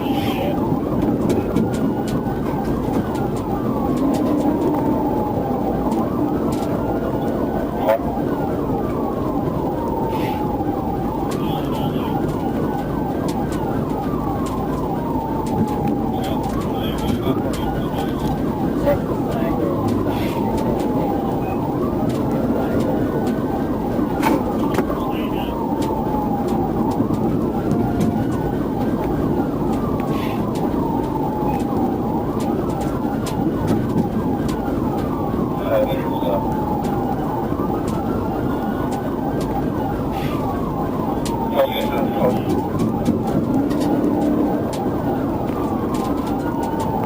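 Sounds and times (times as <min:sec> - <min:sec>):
police siren wailing: 0:00.0 - 0:47.0
police siren yelping: 0:00.0 - 0:47.0
road and engine noise: 0:00.0 - 0:47.0.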